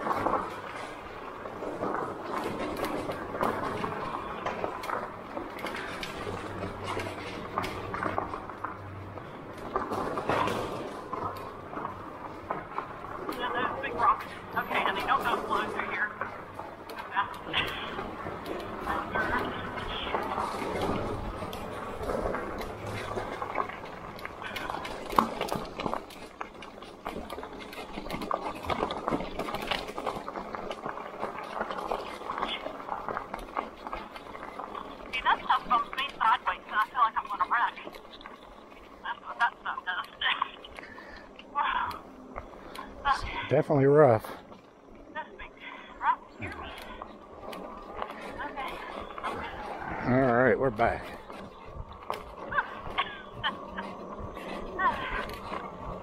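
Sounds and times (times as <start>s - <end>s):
bike rattling over rocks: 0.0s - 56.0s.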